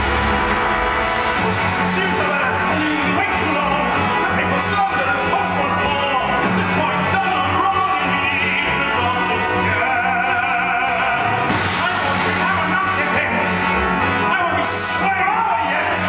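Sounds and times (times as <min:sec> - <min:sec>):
orchestra playing: 0:00.0 - 0:16.0.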